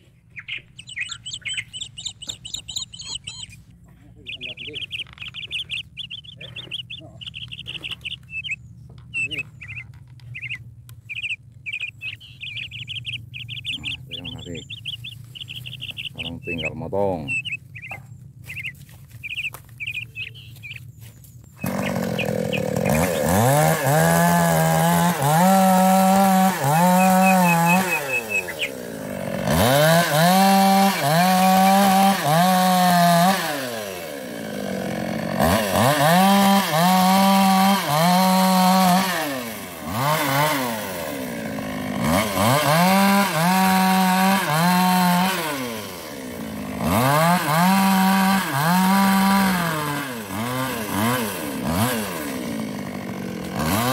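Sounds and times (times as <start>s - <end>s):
chainsaw revving and cutting wood: 0.8s - 53.9s.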